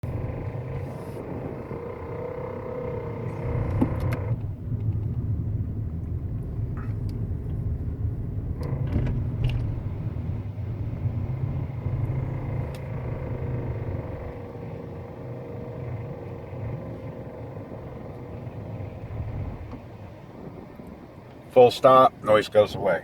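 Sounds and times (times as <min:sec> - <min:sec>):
car engine knocking rumble: 0:00.0 - 0:21.6.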